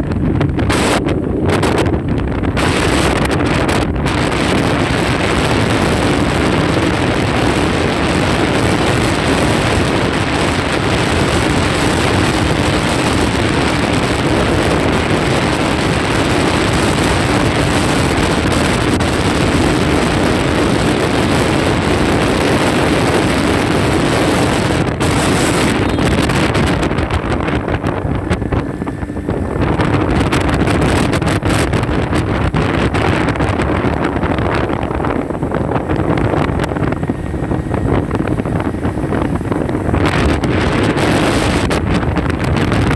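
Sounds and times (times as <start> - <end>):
moving vehicle running noise: 0.0 - 42.9
wind on microphone: 0.0 - 42.9.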